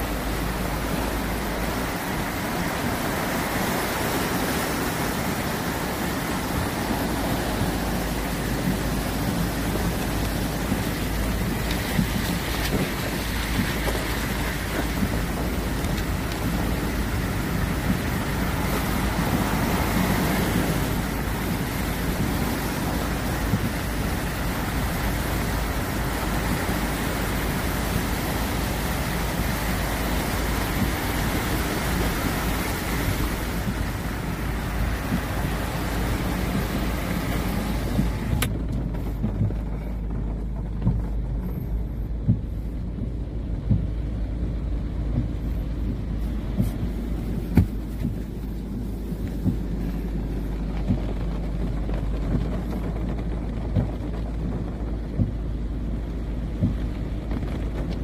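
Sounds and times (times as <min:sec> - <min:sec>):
floodwater torrent rushing: 0:00.0 - 0:58.0
heavy rain: 0:00.0 - 0:58.0
low rumble with bumps: 0:00.0 - 0:58.0.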